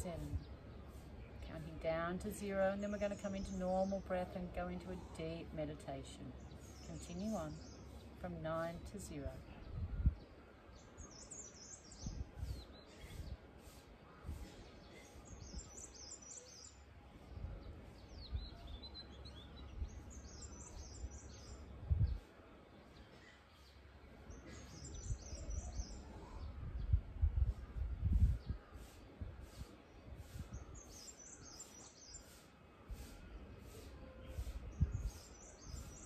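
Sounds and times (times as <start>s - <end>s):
small birds twittering: 0.0s - 36.0s.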